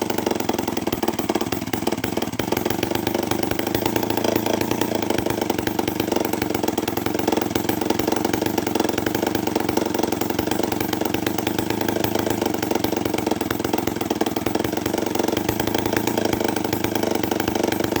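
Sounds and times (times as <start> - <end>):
chainsaw engine running loud: 0.0 - 18.0.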